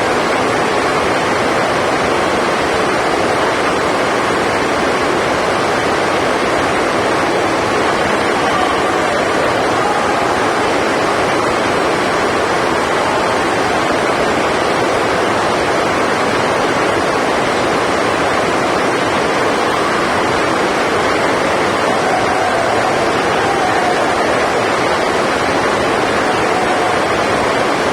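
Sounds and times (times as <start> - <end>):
loud rushing noise: 0.0 - 27.9.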